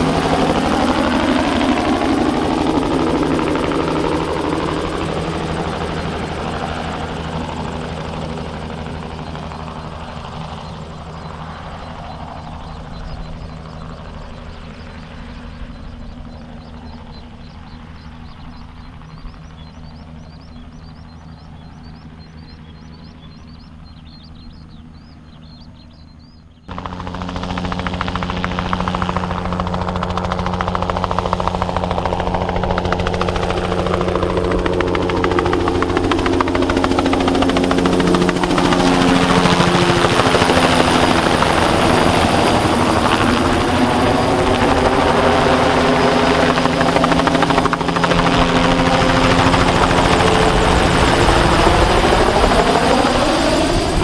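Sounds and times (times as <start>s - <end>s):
helicopter turbine and rotors: 0.0s - 54.0s.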